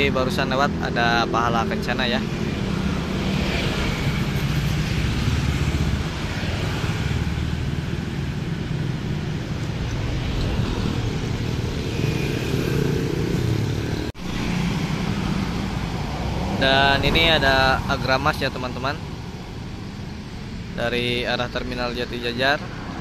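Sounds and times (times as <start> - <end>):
car engines passing: 0.0 - 23.0
motorcycle engines passing: 0.0 - 23.0
tyre noise on road: 1.9 - 21.2.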